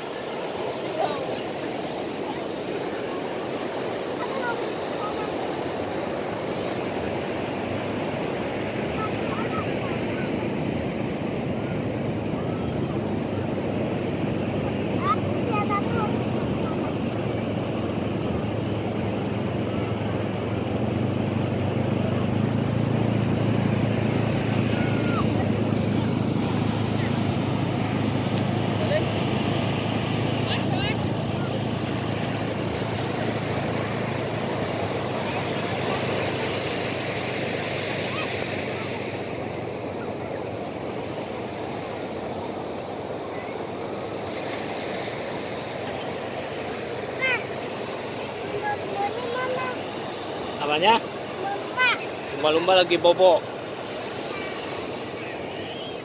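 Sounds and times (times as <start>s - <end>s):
crowd chatter: 0.0s - 52.4s, 53.0s - 56.0s
breaking surf: 0.0s - 56.0s
motor engine humming: 0.0s - 56.0s.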